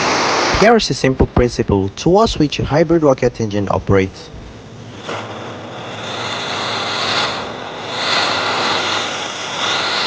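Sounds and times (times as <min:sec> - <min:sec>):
oxygen jet hissing: 0:00.0 - 0:10.0.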